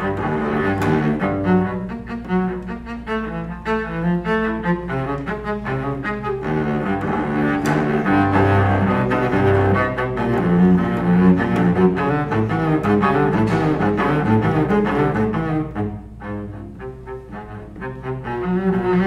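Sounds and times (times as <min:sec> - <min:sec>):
solo cello bowed: 0:00.0 - 0:19.0.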